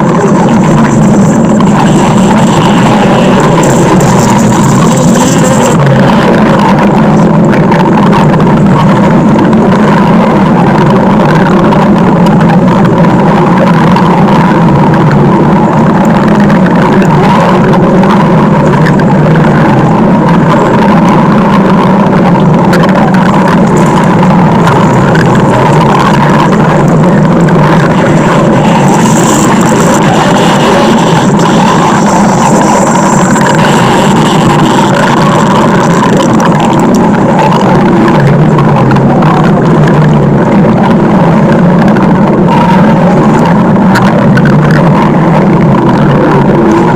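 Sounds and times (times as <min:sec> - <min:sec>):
stomach growl rumble: 0:00.0 - 0:46.9.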